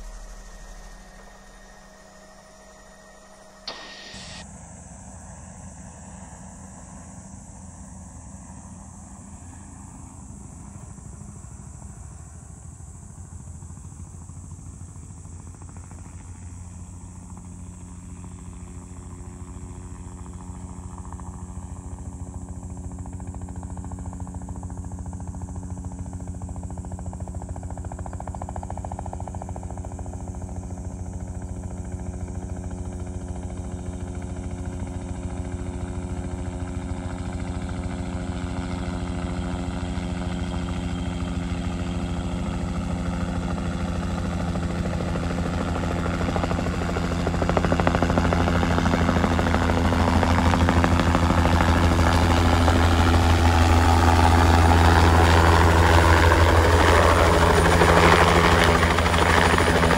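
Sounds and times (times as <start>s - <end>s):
helicopter flying toward listener: 0.0s - 59.9s.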